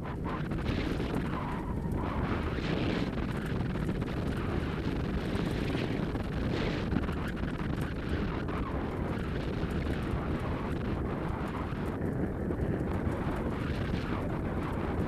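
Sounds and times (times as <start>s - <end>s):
deep rumble: 0.0s - 15.0s
wind buffeting microphone: 0.0s - 15.0s.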